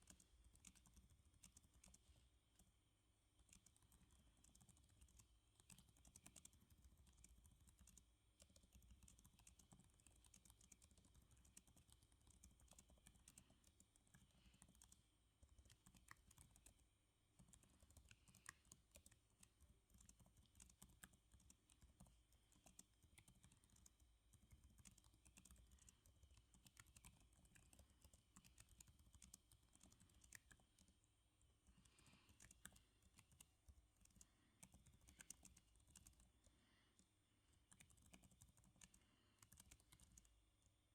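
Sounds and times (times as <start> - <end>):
keyboard typing: 0.0 - 2.7, 3.4 - 40.4.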